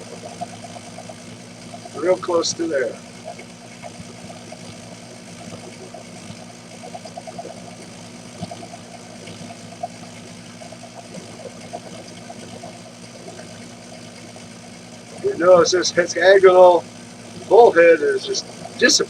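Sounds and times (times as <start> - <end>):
metal lathe motor and gear hum: 0.0 - 19.0.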